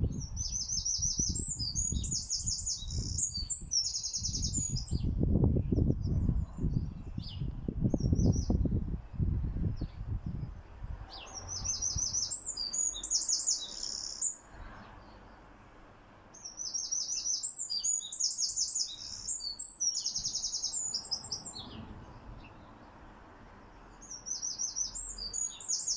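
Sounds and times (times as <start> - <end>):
wren singing trills: 0.0 - 15.5, 16.3 - 23.0, 23.6 - 25.9.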